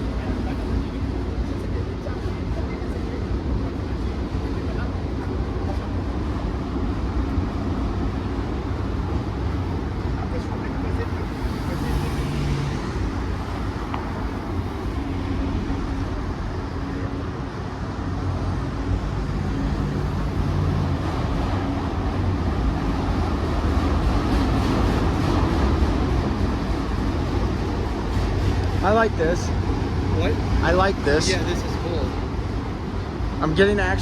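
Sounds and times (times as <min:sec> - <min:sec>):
road traffic: 0:00.0 - 0:34.0
train wheels rumbling on rails: 0:00.0 - 0:34.0.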